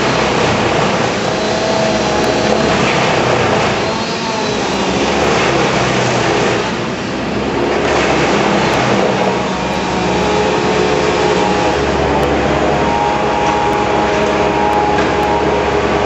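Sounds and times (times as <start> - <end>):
broad rushing noise: 0.0 - 16.0
heavy engine running: 0.0 - 16.0.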